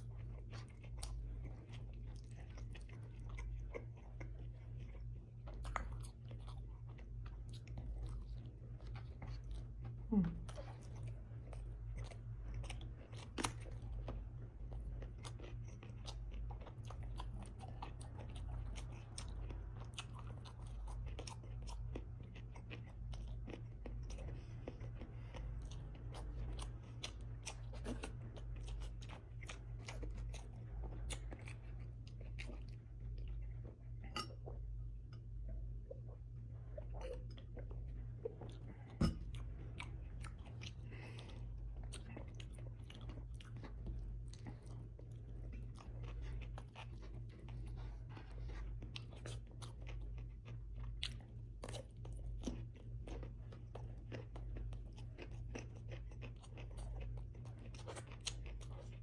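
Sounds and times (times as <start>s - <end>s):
chewing crunchy cucumber: 0.0s - 59.0s
steady low hum: 0.0s - 59.0s.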